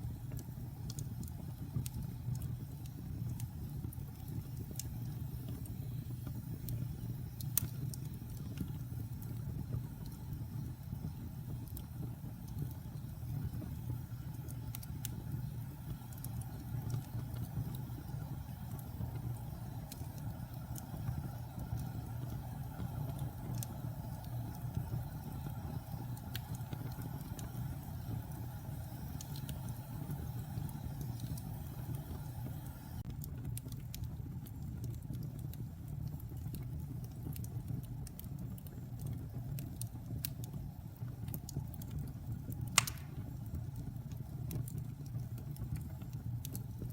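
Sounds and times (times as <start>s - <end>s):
fire crackling and popping: 0.0s - 46.9s
flames rumbling in fireplace: 0.0s - 46.9s.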